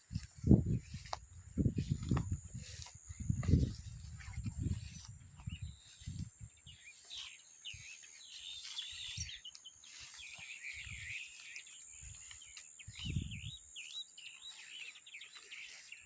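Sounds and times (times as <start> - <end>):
birds chirping and singing: 0.0 - 16.0.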